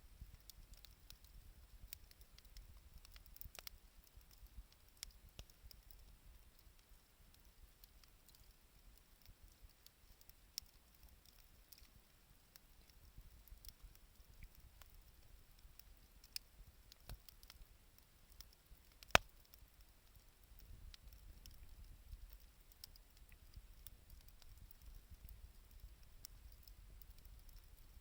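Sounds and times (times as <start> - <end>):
wood fire crackling and popping: 0.2 - 28.0.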